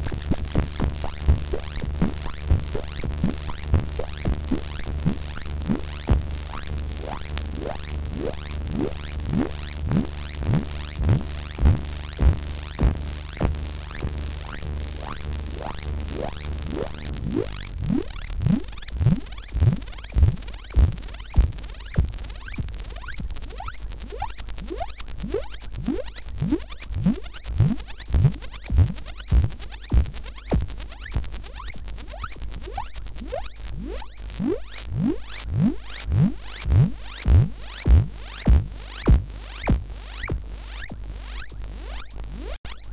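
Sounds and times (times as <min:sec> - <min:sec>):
clicky electronic synth notes: 0:00.0 - 0:42.9.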